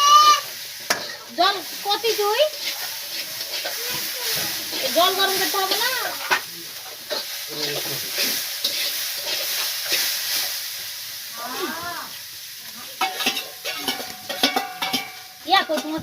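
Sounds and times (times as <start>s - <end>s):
food sizzling in oil: 0.0s - 16.0s
spatula scraping pan: 0.1s - 10.6s, 13.0s - 16.0s.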